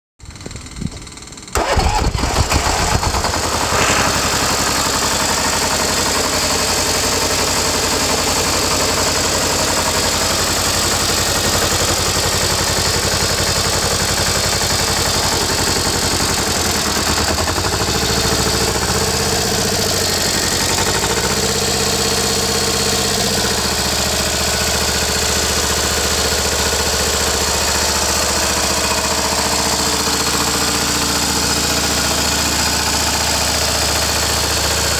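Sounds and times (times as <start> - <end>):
diesel engine starting and running: 0.2 - 34.9.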